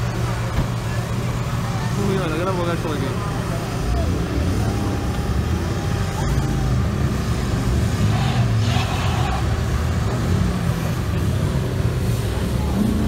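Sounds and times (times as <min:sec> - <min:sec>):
buggy engines climbing: 0:00.0 - 0:13.0.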